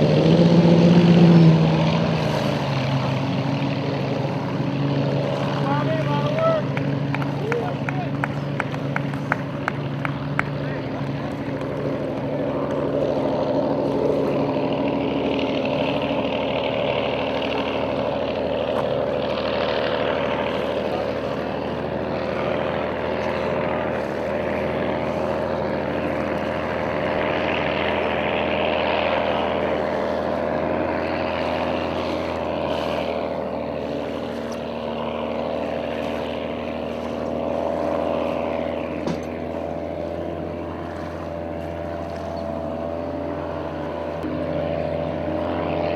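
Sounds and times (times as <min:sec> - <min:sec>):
boat engine running at speed: 0:00.0 - 0:45.9.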